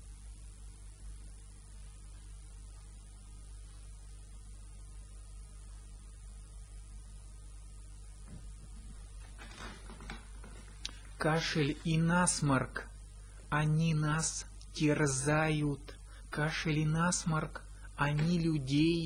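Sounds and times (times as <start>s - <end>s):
electrical mains hum: 0.0s - 19.0s
low hiss: 0.0s - 19.0s.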